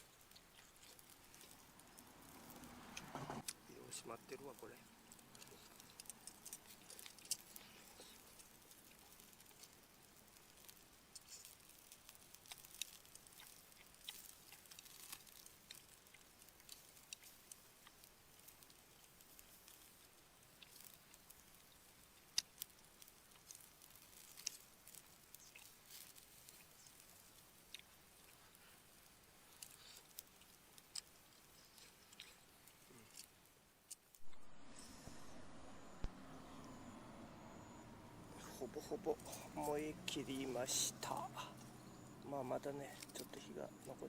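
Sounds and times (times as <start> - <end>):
charcoal crackling in a grill: 0.0 - 44.0.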